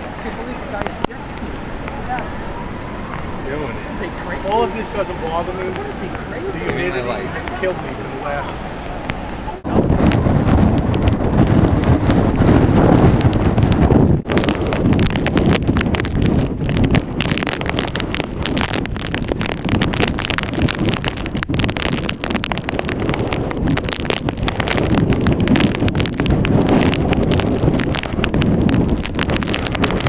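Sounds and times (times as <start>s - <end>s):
strong wind buffeting microphone: 0.0s - 30.0s.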